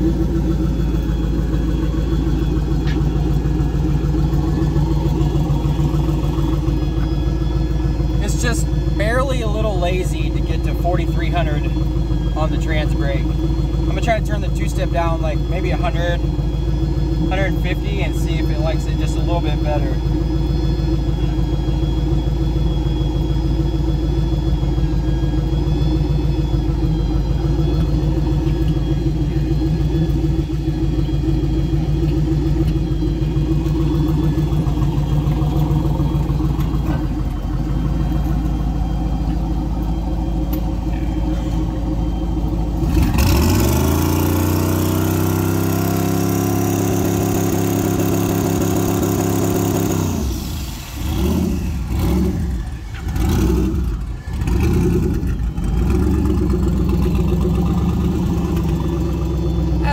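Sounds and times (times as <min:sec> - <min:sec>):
turbocharged engine revving: 0:00.0 - 0:59.9.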